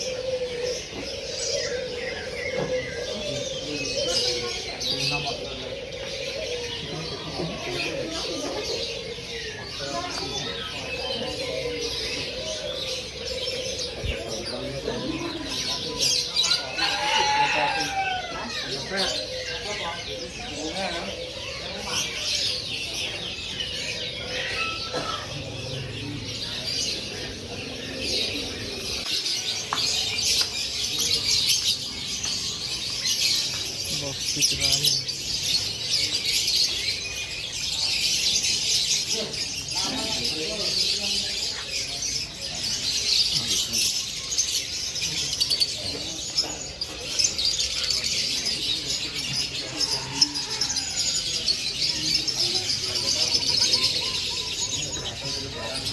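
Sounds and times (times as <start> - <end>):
caged songbirds chirping: 0.0 - 55.9.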